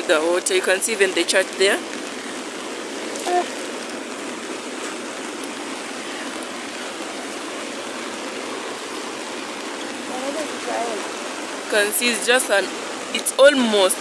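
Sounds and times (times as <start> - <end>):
falling rain: 0.0 - 14.0
flooded river rushing: 0.0 - 14.0.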